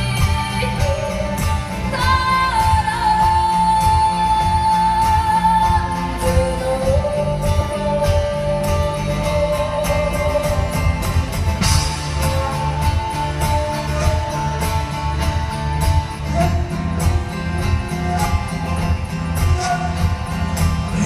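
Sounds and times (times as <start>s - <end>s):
live band music: 0.0s - 21.0s.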